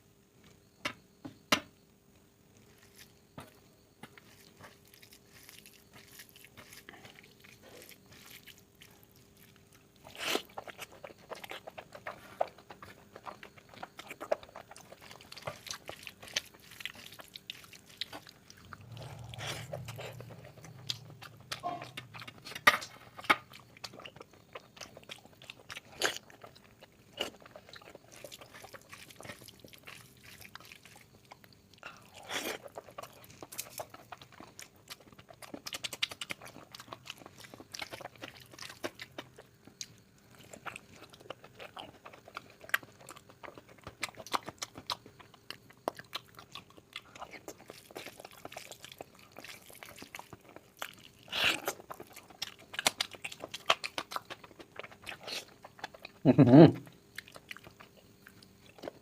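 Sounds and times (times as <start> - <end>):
wet chewing and lip-smacking: 2.8 - 59.0.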